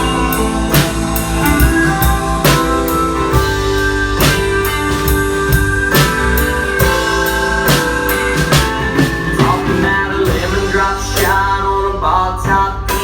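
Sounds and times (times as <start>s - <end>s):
drum kit steady beat: 0.0s - 13.0s
electric guitar long held notes: 0.0s - 13.0s.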